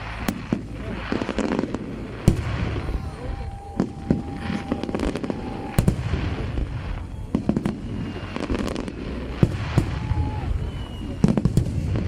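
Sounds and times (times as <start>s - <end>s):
fireworks bangs and crackling pops: 0.0s - 12.0s.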